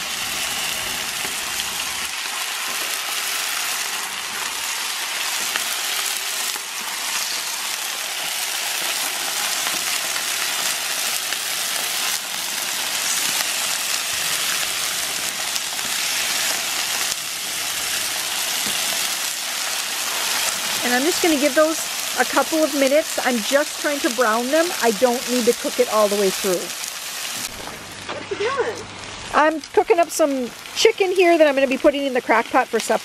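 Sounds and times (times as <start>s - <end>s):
chicken sizzling on griddle: 0.0s - 33.0s.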